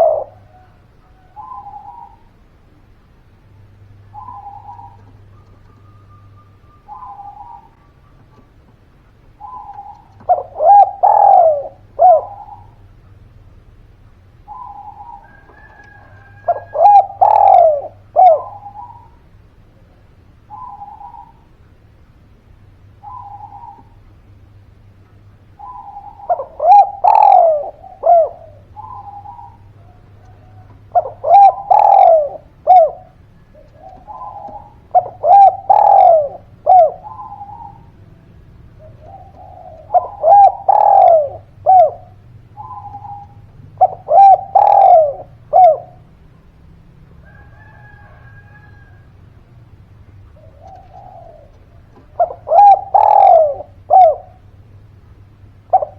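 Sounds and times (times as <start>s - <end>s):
dove cooing: 0.0s - 13.4s, 14.4s - 21.7s, 22.8s - 24.7s, 25.4s - 55.9s.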